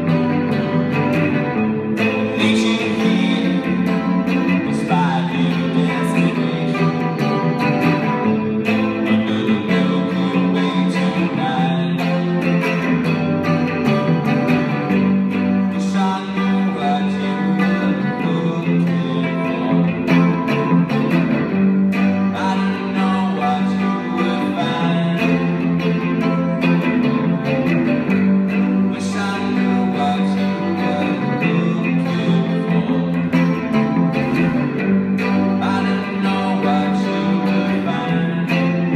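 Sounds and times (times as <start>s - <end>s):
electric bass: 0.0s - 38.9s
electric guitar: 0.0s - 38.9s
man singing: 0.0s - 38.9s.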